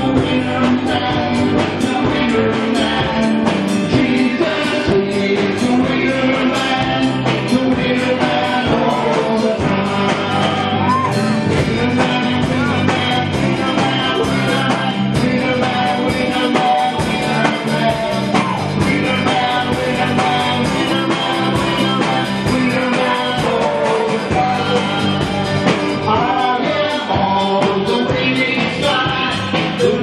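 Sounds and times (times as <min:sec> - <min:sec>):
drum kit beat: 0:00.0 - 0:30.0
electric guitars: 0:00.0 - 0:30.0
people singing into microphones: 0:00.0 - 0:30.0.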